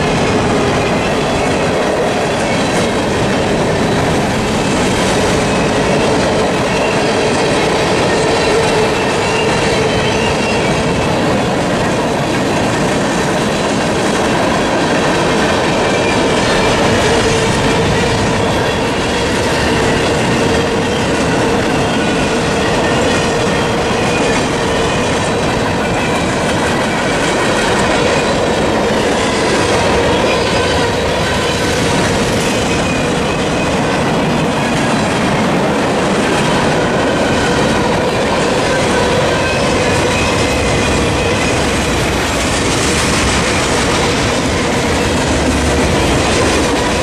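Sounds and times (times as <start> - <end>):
train wheels clattering and rumbling: 0.0 - 47.0.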